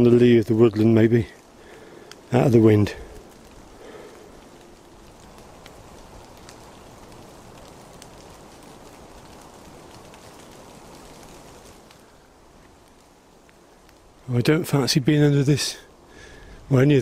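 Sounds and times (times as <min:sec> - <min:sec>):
sharp raindrop ticks: 0:00.0 - 0:16.8
rain hissing: 0:00.0 - 0:17.0.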